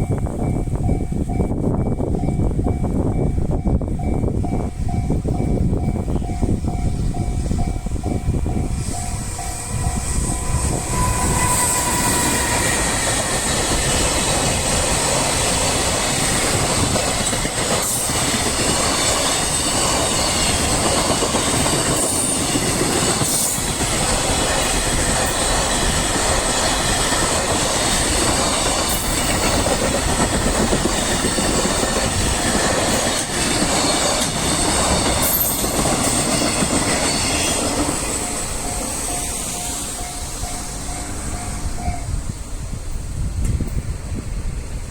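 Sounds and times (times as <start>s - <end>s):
train wheels clickety-clack on rails: 0.0s - 44.9s.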